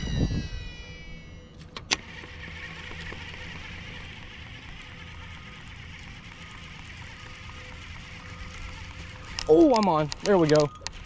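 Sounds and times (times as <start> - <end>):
fishing reel clicks: 0.0 - 11.0
fishing reel spool whining: 0.0 - 11.0
fishing reel whirring: 0.0 - 11.0.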